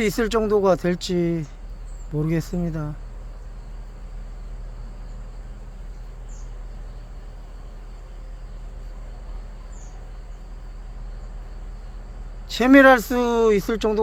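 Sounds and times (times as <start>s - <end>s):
bees humming: 0.0s - 14.0s
cricket trill: 0.0s - 14.0s
high chirps: 0.0s - 14.0s.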